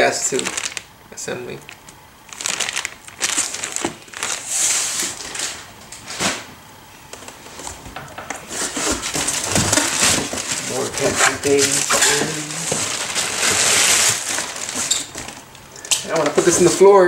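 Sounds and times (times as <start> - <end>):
plastic bag crinkling: 0.0 - 0.9, 1.5 - 6.2, 8.5 - 17.0.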